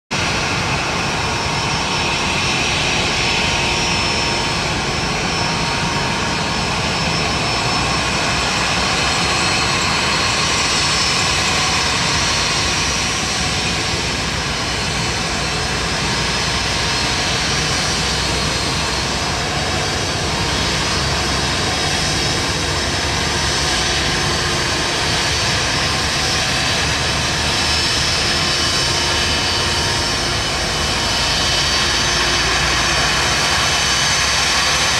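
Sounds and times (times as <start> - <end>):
jet engines idling: 0.1 - 34.9.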